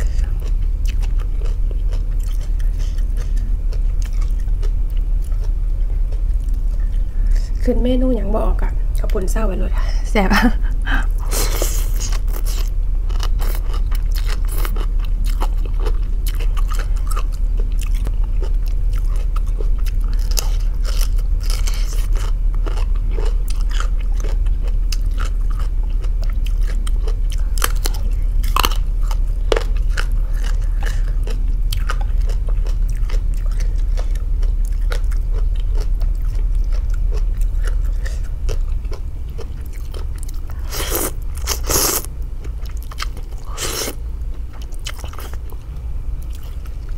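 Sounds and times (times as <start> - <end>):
person chewing crunchy food: 0.0 - 7.7, 11.0 - 46.9
steady low hum: 0.0 - 46.9.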